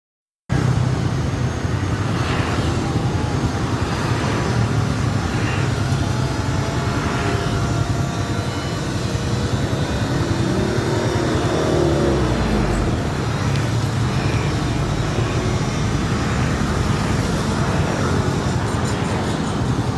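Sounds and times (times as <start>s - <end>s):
airplane in flight rumble: 0.5s - 19.9s.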